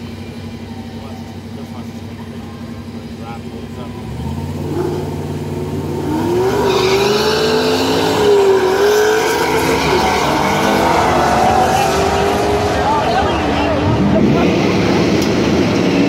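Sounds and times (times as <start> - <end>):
racing car engines revving: 0.0 - 16.0.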